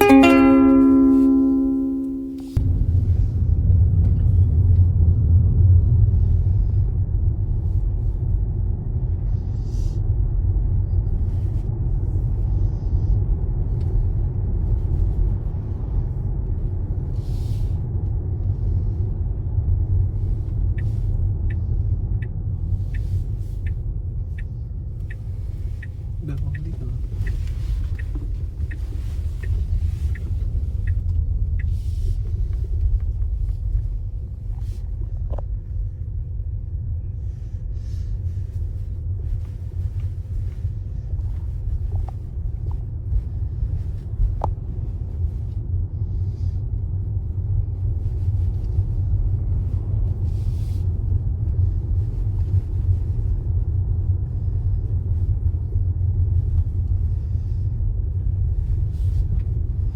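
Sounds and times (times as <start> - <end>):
car interior road and engine noise: 0.0 - 59.9.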